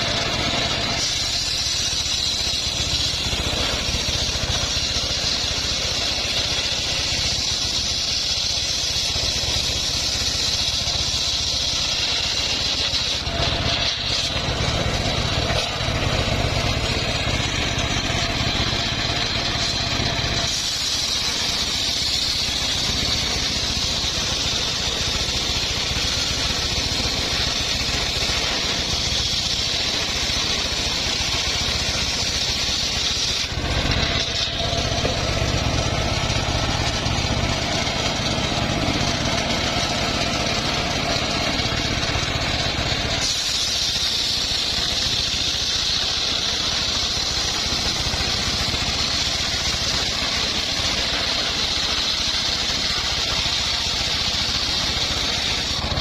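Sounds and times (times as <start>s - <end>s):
circular saw cutting wood: 0.0s - 56.0s.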